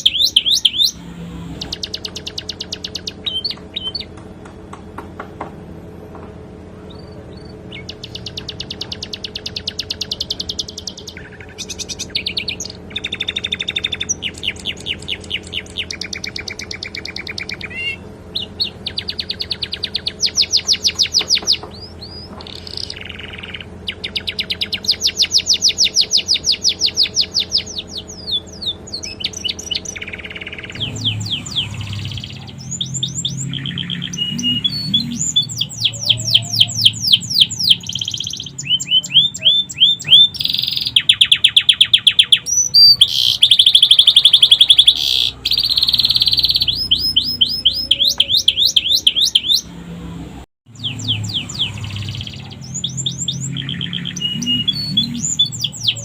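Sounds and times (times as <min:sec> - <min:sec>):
canary singing trills: 0:00.0 - 0:04.2, 0:06.8 - 0:50.0, 0:50.7 - 0:56.0.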